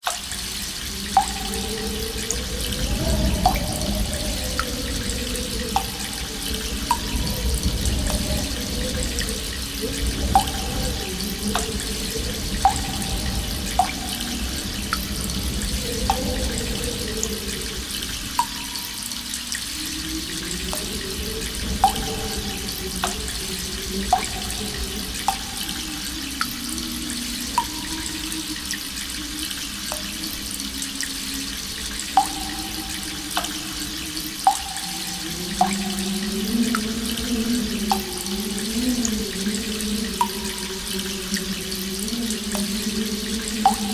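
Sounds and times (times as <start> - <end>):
water drops plinking into pool: 0.0 - 43.9.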